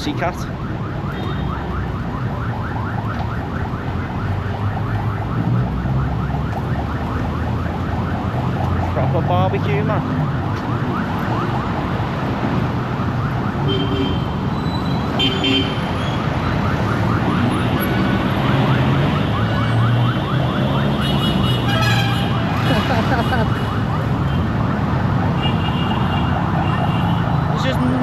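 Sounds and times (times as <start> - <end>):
busy street traffic: 0.0 - 28.0
siren yelping: 0.0 - 28.0.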